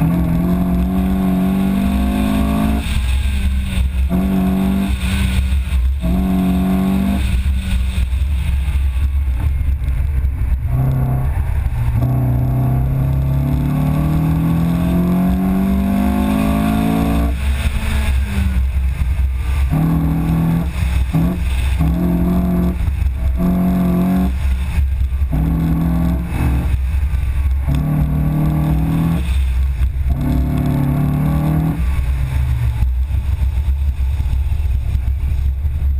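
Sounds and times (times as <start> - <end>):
car engine revving: 0.0 - 35.9
wind rumble on microphone: 0.0 - 35.9.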